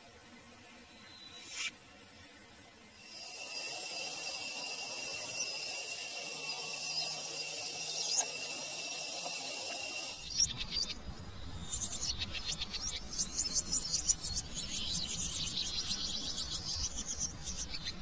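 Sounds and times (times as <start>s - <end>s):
high-pitched droning whine: 0.0s - 18.0s
rapid chirping trills: 3.0s - 18.0s.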